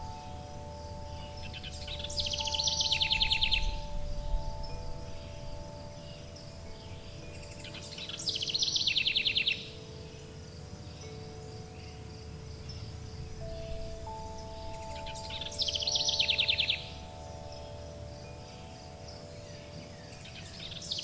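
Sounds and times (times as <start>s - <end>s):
faint low background noise: 0.0s - 21.0s
songbird trilling: 0.0s - 21.0s
wind chimes ringing: 0.0s - 21.0s.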